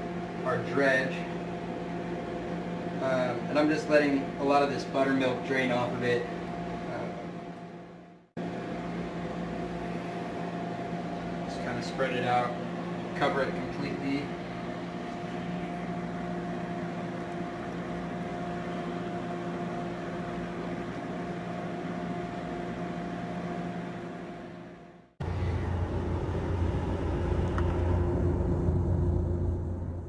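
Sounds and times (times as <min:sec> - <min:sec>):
appliance fan hum: 0:00.0 - 0:30.0
deep loud hum: 0:00.0 - 0:30.0.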